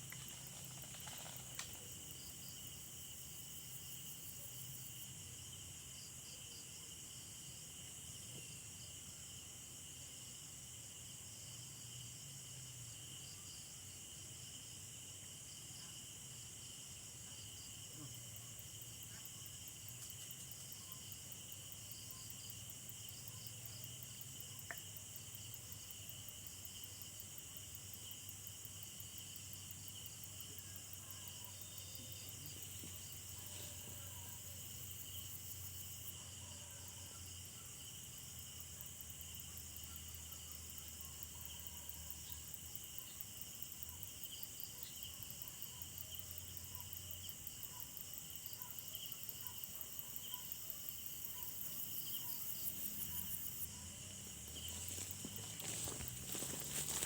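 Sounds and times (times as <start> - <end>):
crickets trilling: 0.0 - 7.1, 15.5 - 57.0.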